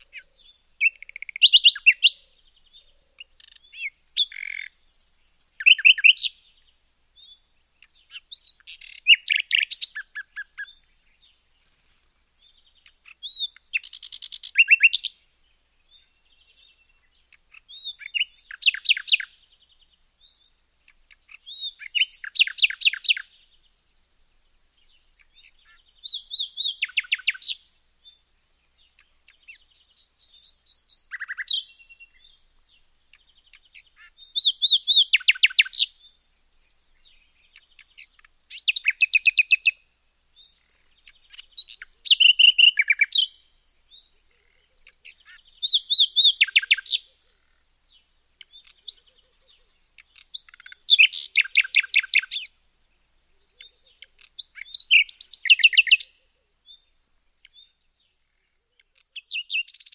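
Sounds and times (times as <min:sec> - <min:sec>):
songbird trilled song: 0:00.0 - 0:59.9.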